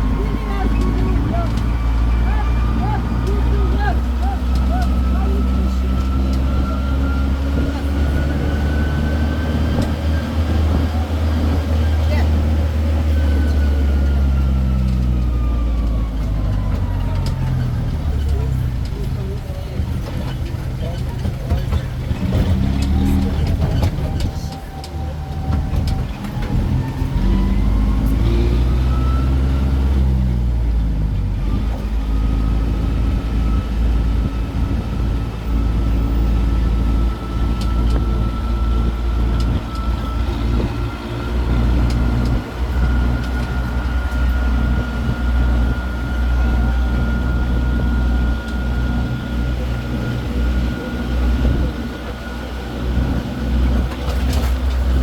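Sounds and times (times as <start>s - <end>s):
drivetrain whine: 0.0s - 55.0s
low engine rumble: 0.0s - 55.0s.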